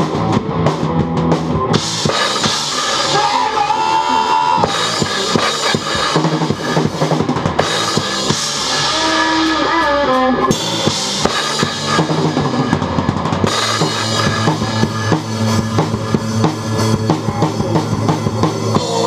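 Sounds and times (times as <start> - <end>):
drum kit playing: 0.0 - 19.0
recorded rock song: 0.0 - 19.0.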